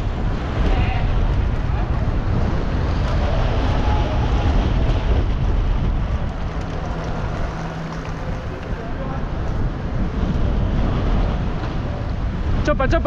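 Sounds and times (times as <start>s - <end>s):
tyres rumbling on road: 0.0s - 13.0s
wind buffeting microphone: 0.0s - 13.0s.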